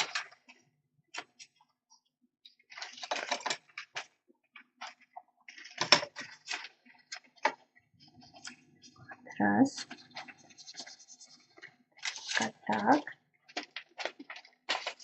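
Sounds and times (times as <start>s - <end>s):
paper rustling: 0.0s - 2.0s, 2.6s - 15.0s.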